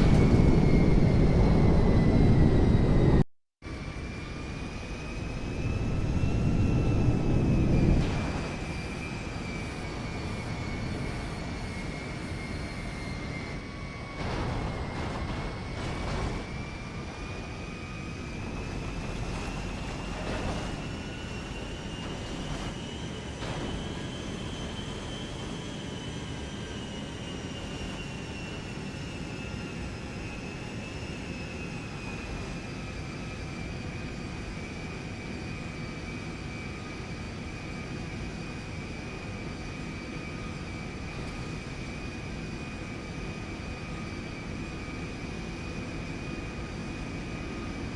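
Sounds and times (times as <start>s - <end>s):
aircraft engine whining: 0.0s - 47.9s.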